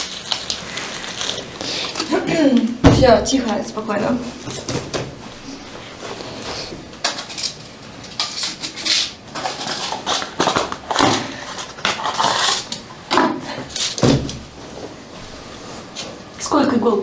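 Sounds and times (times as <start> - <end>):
rustling scrapes: 0.0 - 3.2, 4.2 - 16.4.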